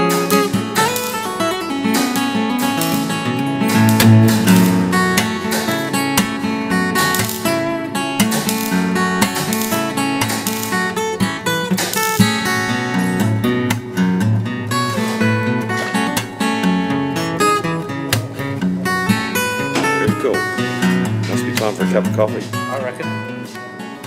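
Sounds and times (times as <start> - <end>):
acoustic guitar plucked and strummed: 0.0 - 24.0.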